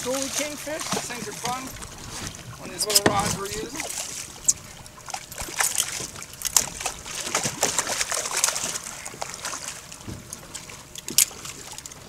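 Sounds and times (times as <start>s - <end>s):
fish thrashing and splashing: 0.0s - 12.0s.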